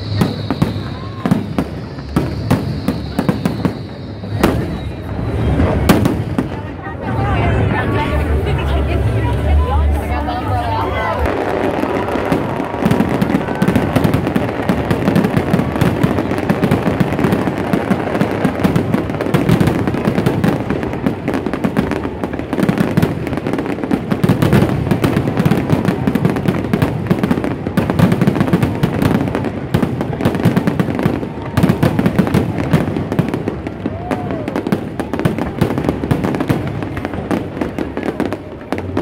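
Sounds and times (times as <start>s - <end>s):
fireworks exploding: 0.0s - 39.0s.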